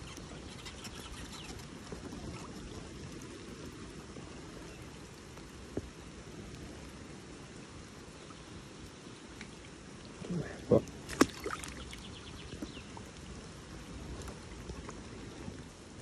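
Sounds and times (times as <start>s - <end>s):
rain falling on lake: 0.0s - 16.0s.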